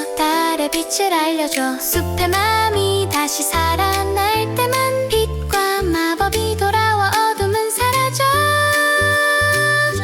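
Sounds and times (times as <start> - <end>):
children's song music: 0.0 - 10.0.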